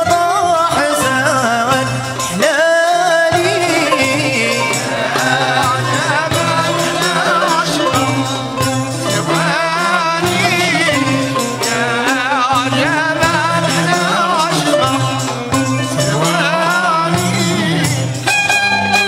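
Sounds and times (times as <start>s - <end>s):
hand percussion: 0.0s - 19.0s
men singing: 0.0s - 19.0s
violins playing: 3.6s - 19.0s.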